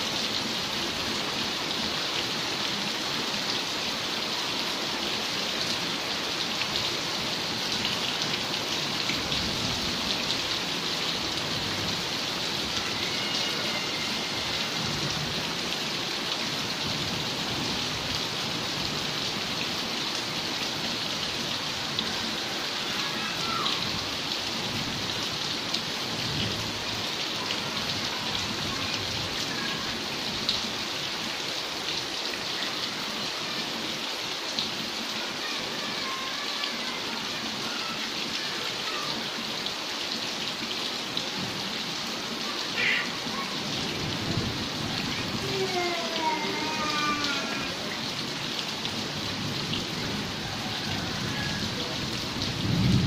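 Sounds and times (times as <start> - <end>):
heavy rain pattering: 0.0 - 53.0.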